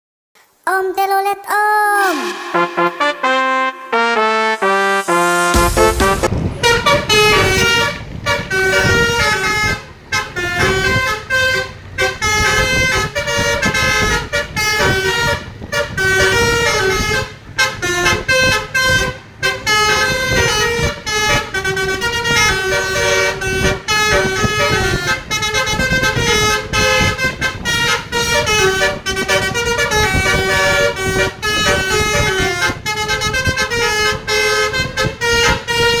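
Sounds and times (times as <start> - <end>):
multi-tone air horn melody: 2.0 - 36.0.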